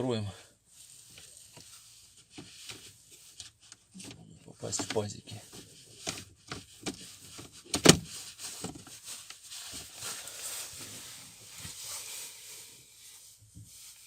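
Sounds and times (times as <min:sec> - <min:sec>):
plastic rubbing and scraping: 0:00.8 - 0:14.0.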